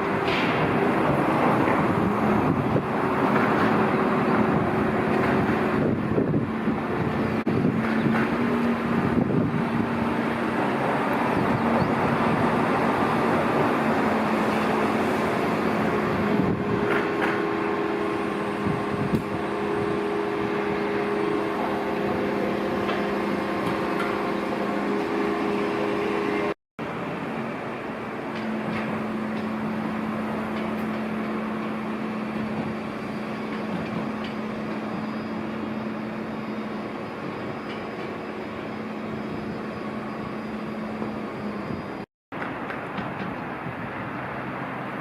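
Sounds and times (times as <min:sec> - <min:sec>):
engine drone: 0:00.0 - 0:45.0
road noise: 0:00.0 - 0:45.0.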